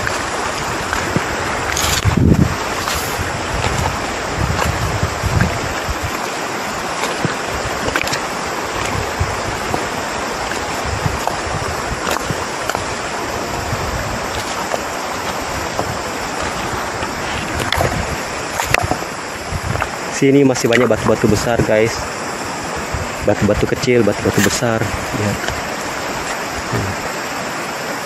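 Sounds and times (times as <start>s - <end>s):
wind buffeting microphone: 0.0s - 27.2s
river water rushing: 0.0s - 28.0s.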